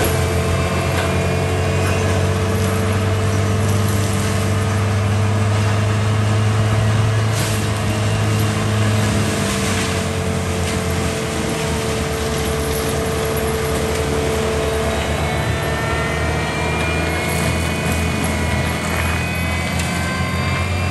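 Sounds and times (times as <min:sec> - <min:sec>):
diesel engine drone: 0:00.0 - 0:20.9
thin high whine: 0:00.0 - 0:20.9.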